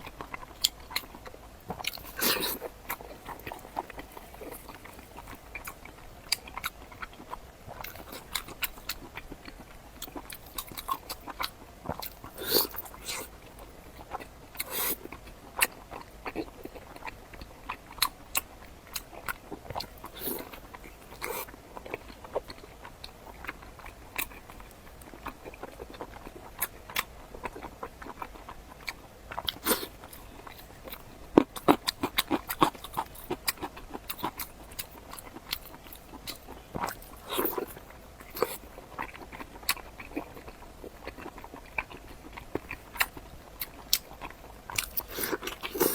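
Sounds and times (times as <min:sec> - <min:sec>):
close-miked chewing and crunching: 0:00.0 - 0:45.9.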